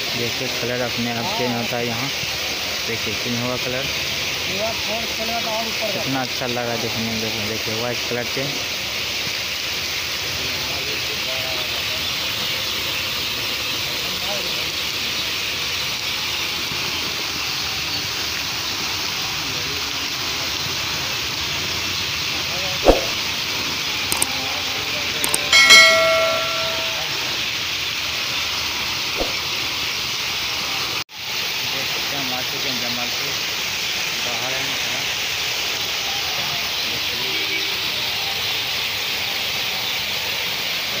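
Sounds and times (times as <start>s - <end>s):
fountain water splashing: 0.0s - 25.3s, 28.7s - 41.0s.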